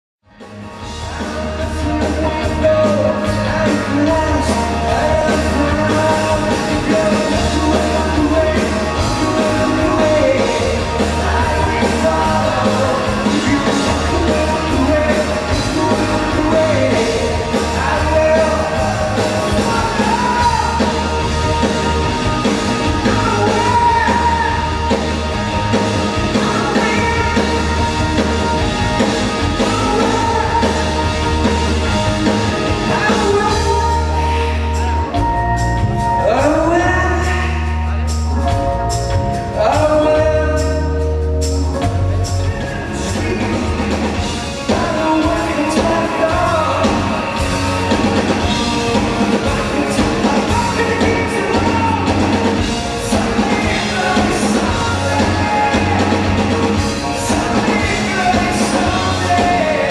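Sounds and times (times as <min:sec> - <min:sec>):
bass: 0:00.2 - 0:59.9
drums: 0:00.2 - 0:59.9
live rock band with singer: 0:00.3 - 0:59.9.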